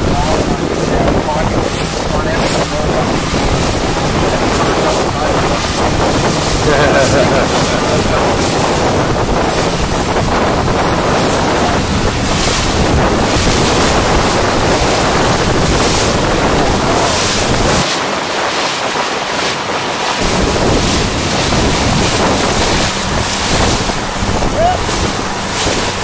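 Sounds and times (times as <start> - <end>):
choppy ocean water rushing: 0.0 - 26.0
wind buffeting the microphone: 0.0 - 26.0.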